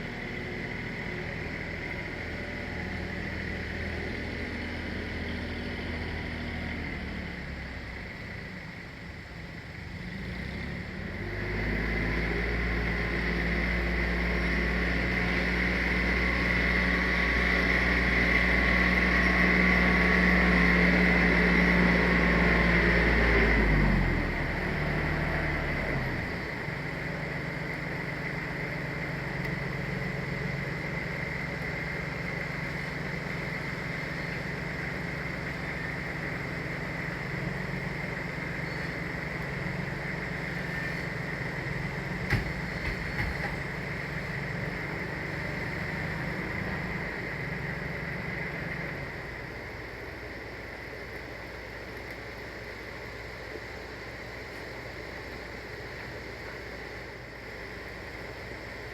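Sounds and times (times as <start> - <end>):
small engine idling: 0.0 - 58.9.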